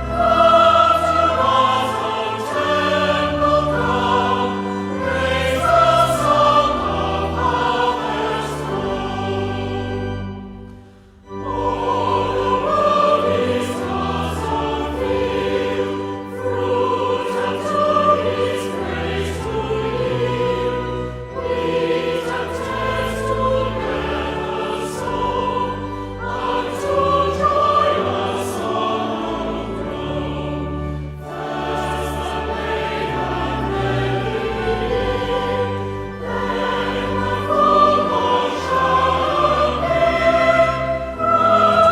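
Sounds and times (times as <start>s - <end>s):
choir singing: 0.0s - 41.9s
instrumental accompaniment: 0.0s - 41.9s.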